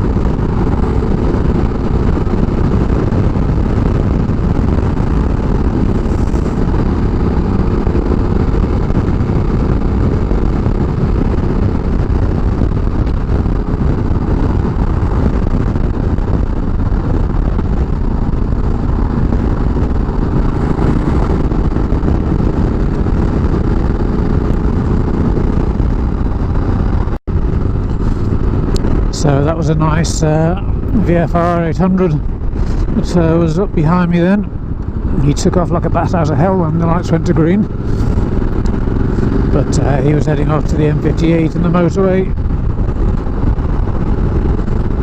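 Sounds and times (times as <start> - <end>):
motorcycle engine running: 0.0 - 45.0
wind rushing over helmet: 0.0 - 45.0.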